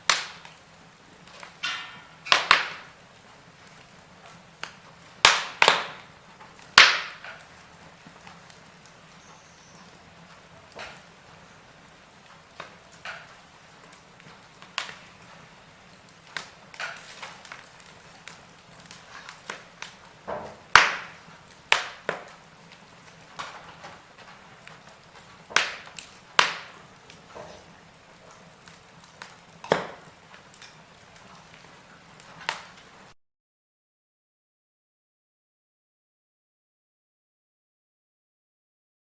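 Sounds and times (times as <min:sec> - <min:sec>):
faint steady hiss: 0:00.0 - 0:33.2
wood fire crackling: 0:00.0 - 0:33.2.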